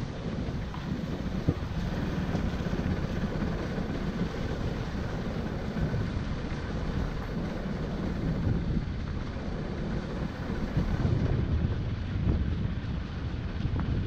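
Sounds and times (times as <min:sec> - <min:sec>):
motorcycle on dirt road: 0:00.0 - 0:14.0.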